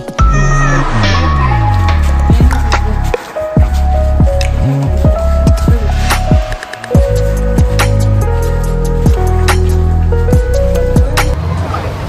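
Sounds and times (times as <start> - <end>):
electronic music with heavy bass: 0.0 - 11.4.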